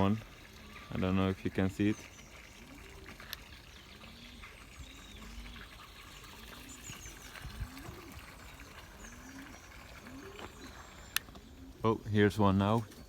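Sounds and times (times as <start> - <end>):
pigeons cooing: 0.0 - 13.0
small birds chirping: 0.0 - 13.0.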